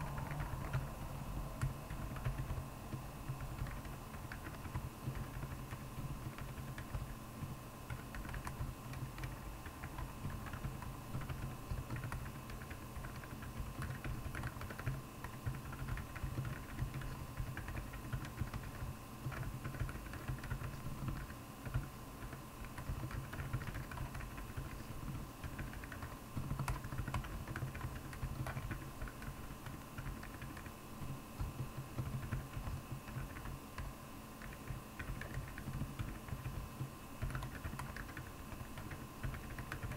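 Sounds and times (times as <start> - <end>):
mechanical keyboard typing: 0.0 - 0.9, 1.6 - 2.6, 3.2 - 30.8, 31.4 - 39.9.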